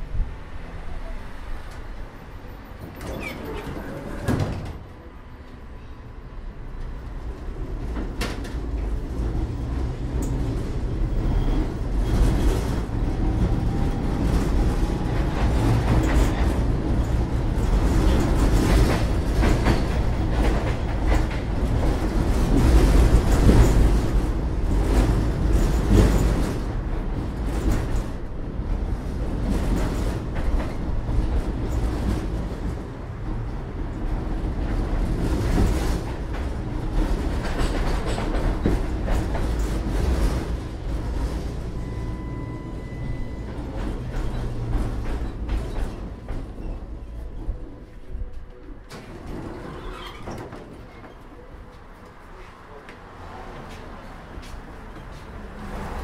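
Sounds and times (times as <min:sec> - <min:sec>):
tram wheels rumbling: 0:00.0 - 0:56.0.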